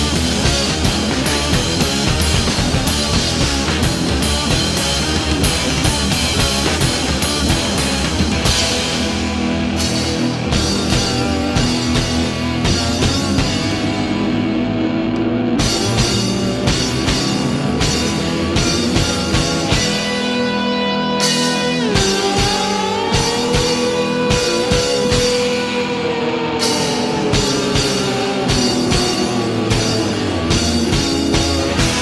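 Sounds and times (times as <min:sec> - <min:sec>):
rock music with drums and guitars: 0:00.0 - 0:32.0.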